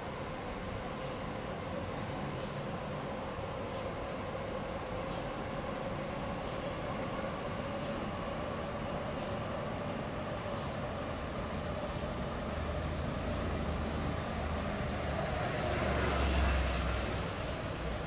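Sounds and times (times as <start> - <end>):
city street noise: 0.0 - 18.0.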